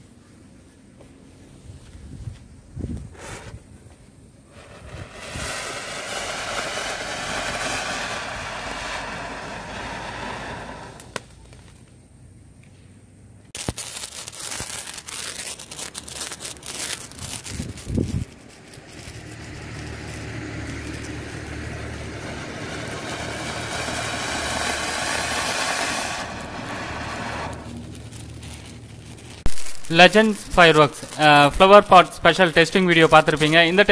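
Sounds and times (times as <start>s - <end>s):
fireworks hissing sparks: 4.4s - 11.8s, 13.5s - 33.9s
fireworks crackling: 4.4s - 12.0s, 13.5s - 33.9s.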